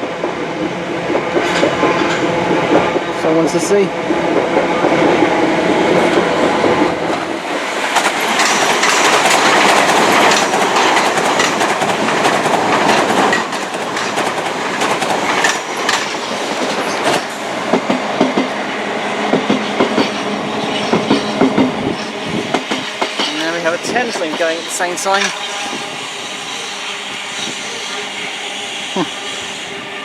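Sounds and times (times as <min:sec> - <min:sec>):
passing train running noise: 0:00.0 - 0:30.0
train wheel clacks: 0:01.1 - 0:18.6, 0:19.3 - 0:25.8.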